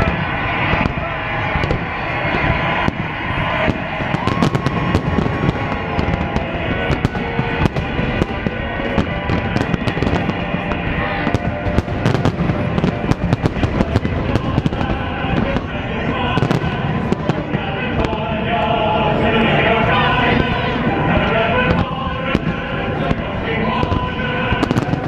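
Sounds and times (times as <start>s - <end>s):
fireworks bangs and crackles: 0.0s - 25.0s
music playing: 0.0s - 25.0s.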